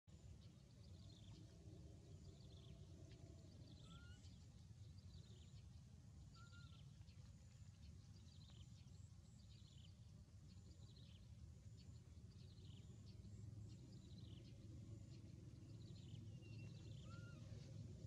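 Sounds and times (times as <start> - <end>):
faint bird chirps: 0.1 - 18.0.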